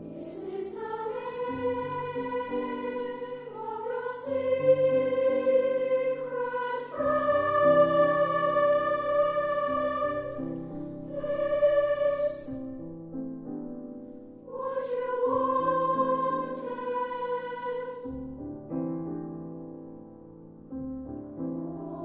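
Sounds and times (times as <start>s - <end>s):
piano accompaniment: 0.0s - 22.0s.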